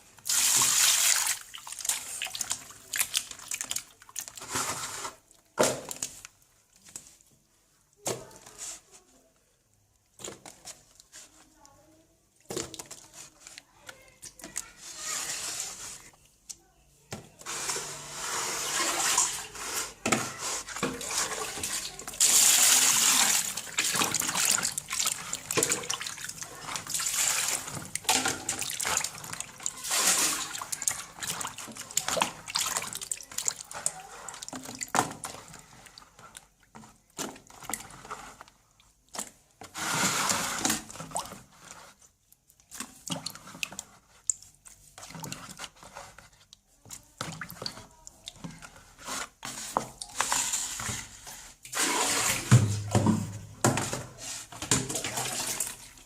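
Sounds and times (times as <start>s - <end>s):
water splashing in a sink: 0.0s - 7.2s, 12.4s - 16.1s, 17.6s - 56.0s.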